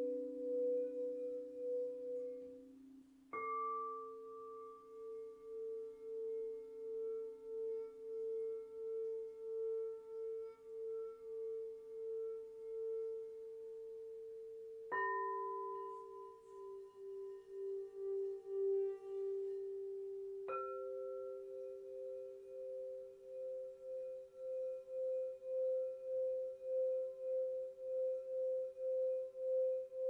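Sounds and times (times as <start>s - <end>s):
crystal singing bowls ringing: 0.0s - 30.0s.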